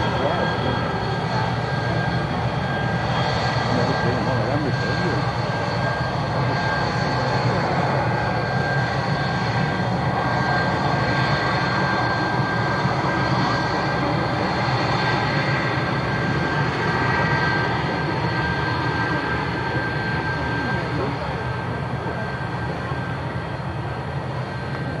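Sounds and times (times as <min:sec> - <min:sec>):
aircraft engines running: 0:00.0 - 0:25.0.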